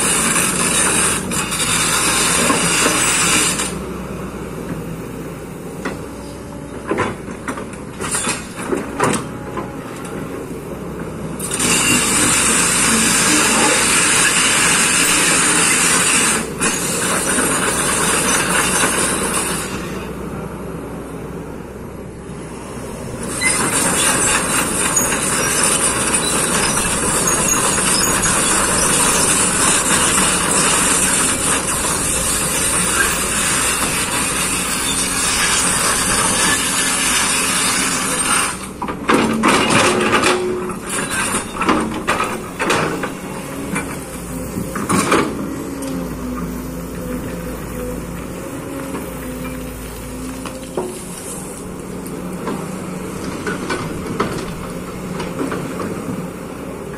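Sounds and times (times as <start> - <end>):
excavator engine running: 0.0 - 56.9.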